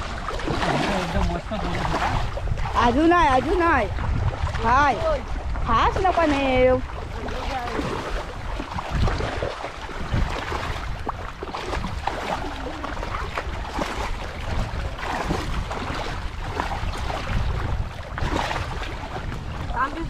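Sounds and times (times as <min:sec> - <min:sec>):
water sloshing and splashing: 0:00.0 - 0:20.0
wind rumbling on microphone: 0:00.0 - 0:20.0.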